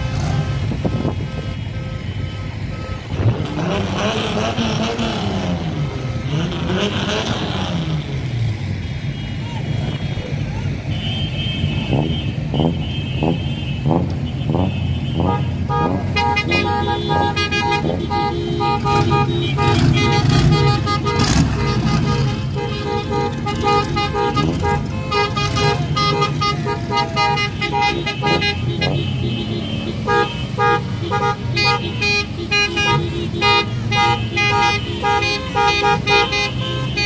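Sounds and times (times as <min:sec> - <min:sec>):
car engines running: 0:00.0 - 0:37.0
car horns honking: 0:00.0 - 0:37.0.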